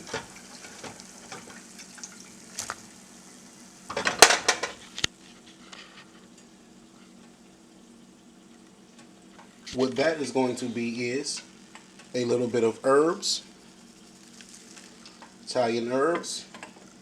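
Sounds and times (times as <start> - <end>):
frying oil sizzling: 0.0 - 17.0.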